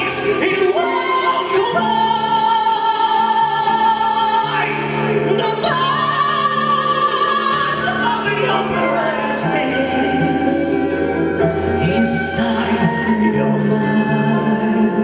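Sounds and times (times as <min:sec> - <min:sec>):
operatic soprano singing high notes: 0:00.0 - 0:15.0.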